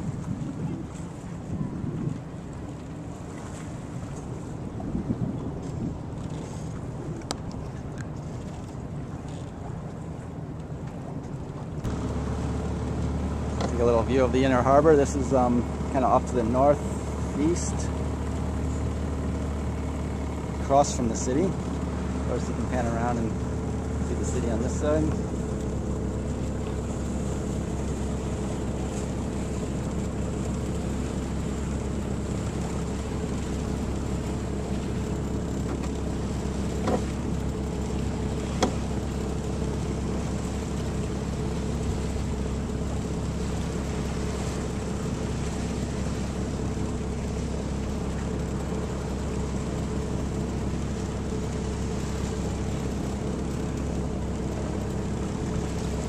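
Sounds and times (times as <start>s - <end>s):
water rushing past boat: 0.0s - 56.0s
wind: 0.0s - 56.0s.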